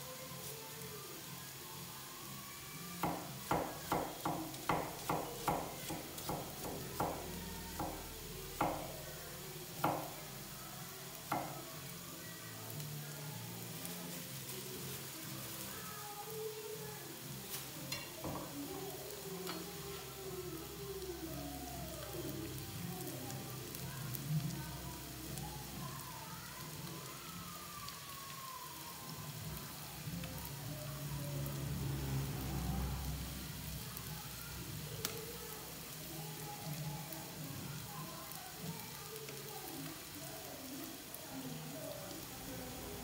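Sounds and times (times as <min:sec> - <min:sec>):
shallots sizzling in hot oil: 0:00.0 - 0:43.0.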